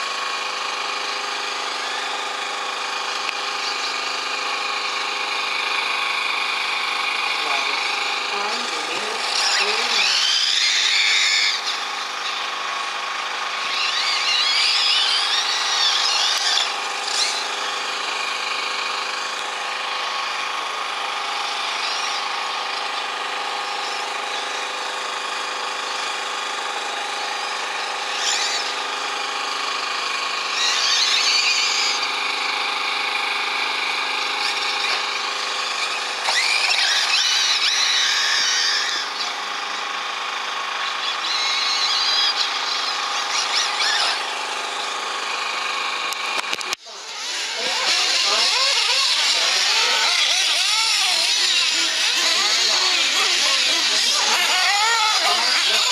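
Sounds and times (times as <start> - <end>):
rc car motor whining: 0.0 - 55.9.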